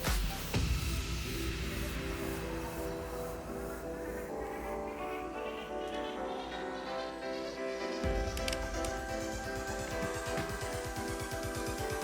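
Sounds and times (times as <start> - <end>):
electronic music with synth and beat: 0.0 - 12.0.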